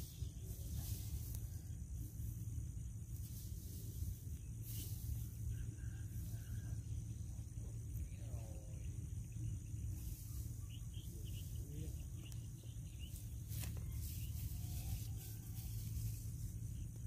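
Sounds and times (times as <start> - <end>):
insect chirring: 0.0 - 17.0
low steady rumble: 0.0 - 17.0.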